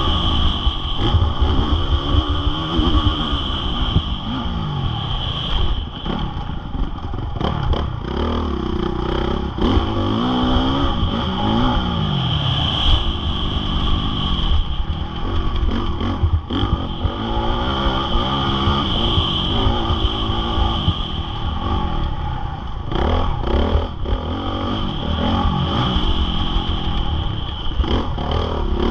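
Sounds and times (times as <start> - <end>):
motocross engine revving: 0.0 - 28.9
steady high whine: 0.0 - 28.9.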